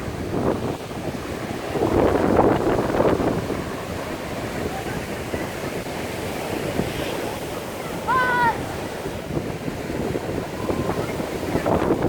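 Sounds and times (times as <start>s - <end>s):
sea waves breaking on beach: 0.0s - 12.0s
wind buffeting microphone: 0.0s - 12.0s.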